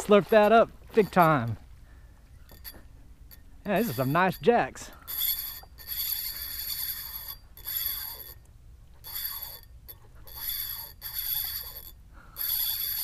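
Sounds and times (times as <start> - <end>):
fishing reel whirring: 0.0 - 1.6, 2.3 - 13.0.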